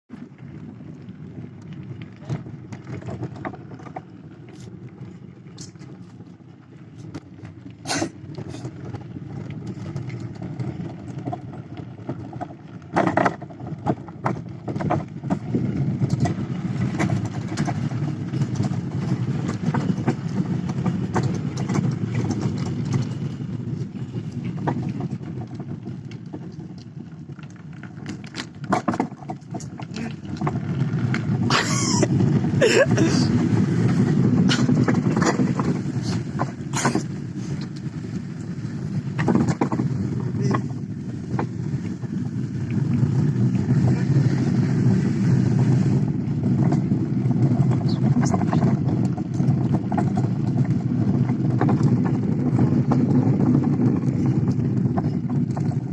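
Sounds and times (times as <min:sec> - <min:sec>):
engine rumbling: 0:00.0 - 0:55.9
sharp knocks and rattles: 0:02.0 - 0:55.9.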